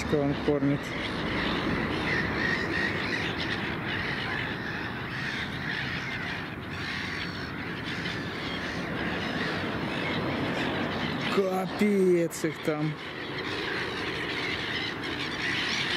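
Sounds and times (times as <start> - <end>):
flock of gulls calling: 0.0 - 15.9.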